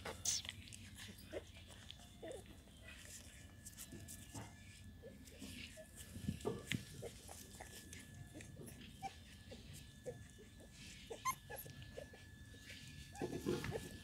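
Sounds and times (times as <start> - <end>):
puppies whimpering and squeaking: 0.0 - 14.0.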